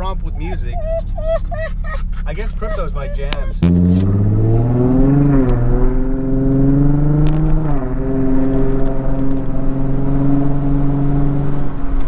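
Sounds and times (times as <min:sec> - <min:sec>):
car exhaust droning: 0:00.0 - 0:11.5.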